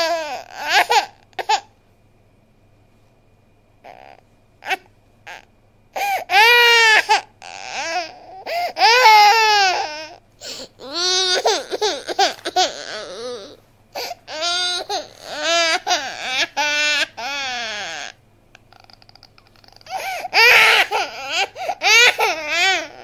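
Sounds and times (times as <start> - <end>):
high-pitched wailing cries: 0.0 - 1.7, 3.8 - 10.2, 10.8 - 23.0.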